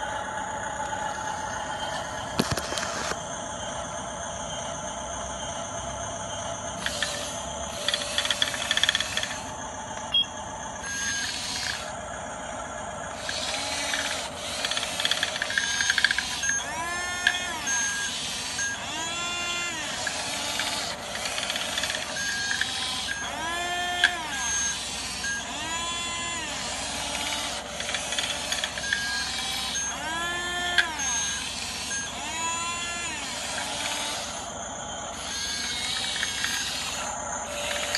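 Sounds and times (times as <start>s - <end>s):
small electric motors whining: 0.0s - 37.9s.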